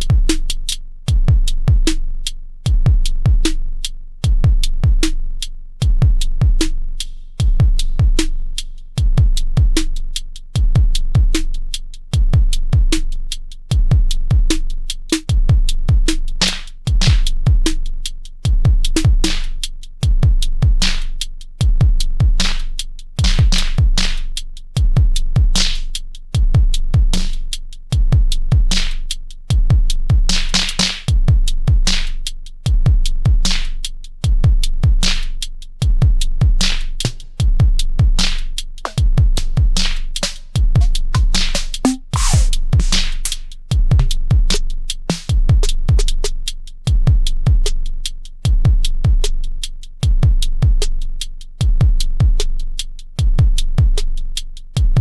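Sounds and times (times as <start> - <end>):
deep bass: 0.0 - 55.0
drum machine beat: 0.0 - 55.0.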